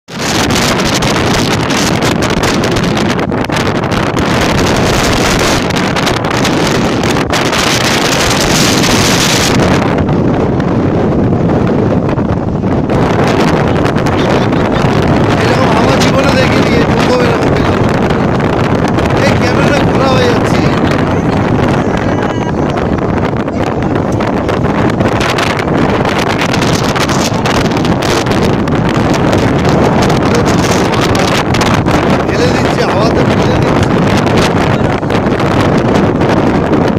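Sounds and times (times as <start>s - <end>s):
wind buffeting microphone: 0.1s - 36.9s.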